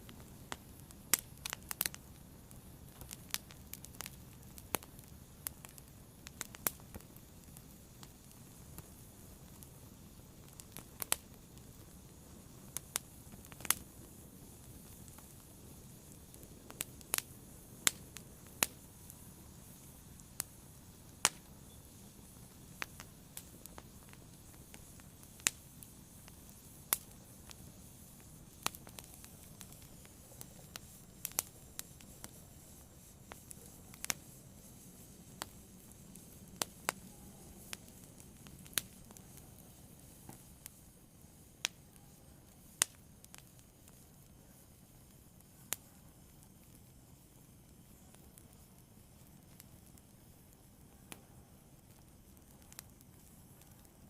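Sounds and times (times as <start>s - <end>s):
fire crackling and popping: 0.0s - 54.0s
hiss of flames: 0.0s - 54.0s.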